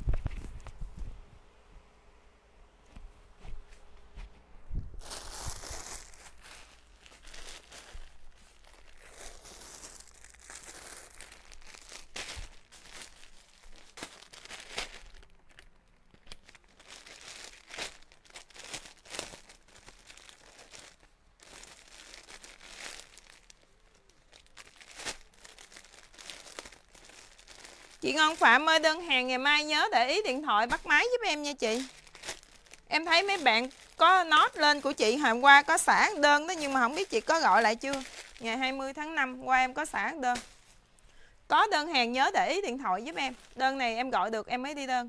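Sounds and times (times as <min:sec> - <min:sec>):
plastic wrapping crinkling: 0:04.9 - 0:45.0.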